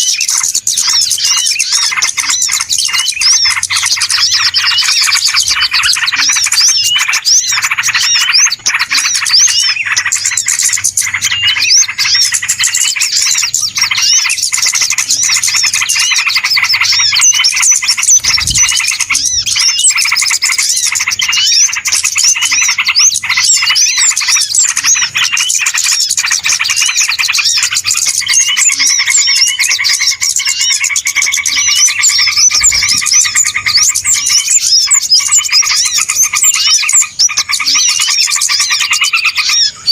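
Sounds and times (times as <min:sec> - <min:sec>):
flock of small birds chirping: 0:00.0 - 0:39.9
lower repeated bird call: 0:00.0 - 0:39.9.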